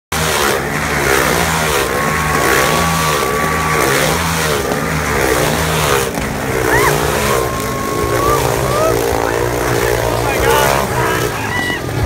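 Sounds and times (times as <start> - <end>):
motorcycle engines revving: 0.1 - 12.0.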